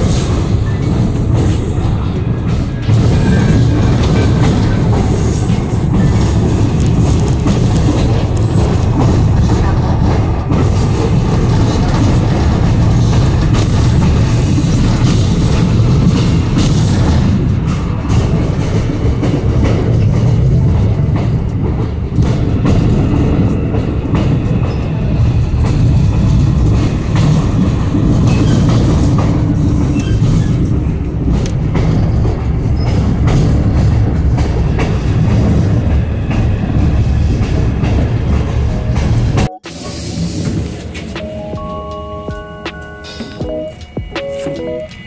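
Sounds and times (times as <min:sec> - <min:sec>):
wheels clicking over rail joints: 0:00.0 - 0:41.2
train wheels rumbling: 0:00.0 - 0:45.0.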